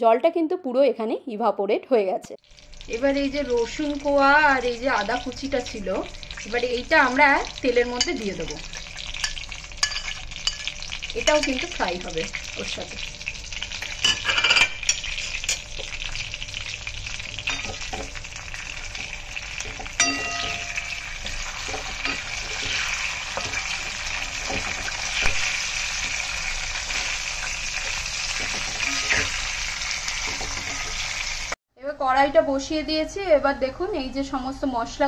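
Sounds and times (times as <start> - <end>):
chicken frying in oil: 2.4 - 31.6.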